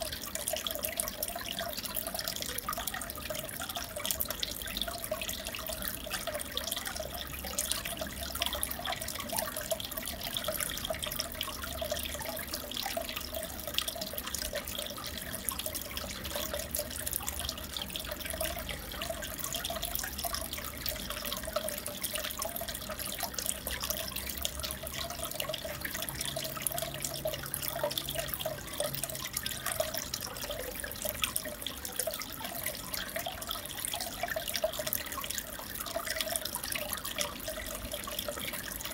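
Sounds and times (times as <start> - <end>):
aquarium water trickling and bubbling: 0.0 - 38.9
small drips and splashes: 0.0 - 38.9.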